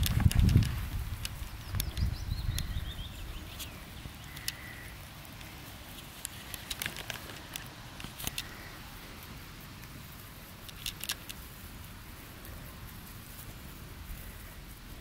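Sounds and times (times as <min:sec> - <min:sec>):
rabbits crunching grass: 0:00.0 - 0:15.0.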